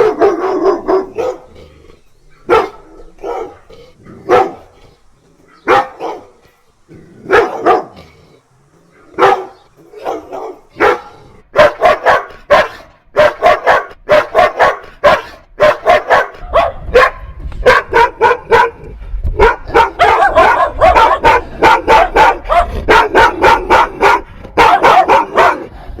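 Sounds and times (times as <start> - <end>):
dogs barking: 0.0 - 6.6, 7.2 - 8.1, 8.8 - 25.8.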